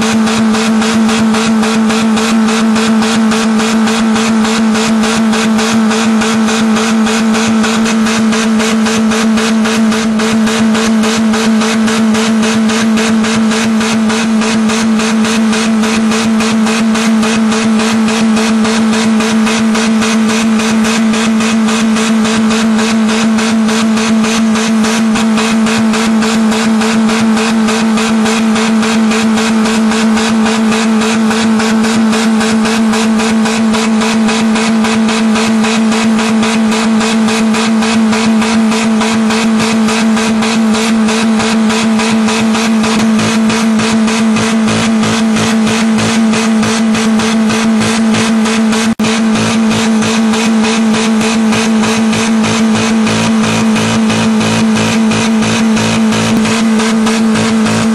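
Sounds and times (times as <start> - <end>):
car engine revving very high: 0.0 - 57.9.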